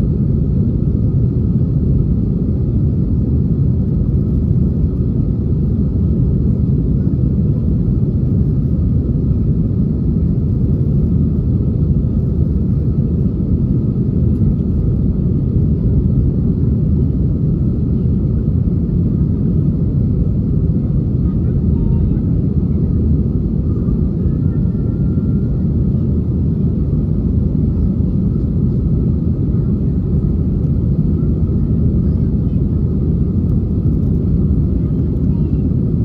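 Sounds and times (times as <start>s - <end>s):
jet engine low rumble: 0.0s - 36.0s.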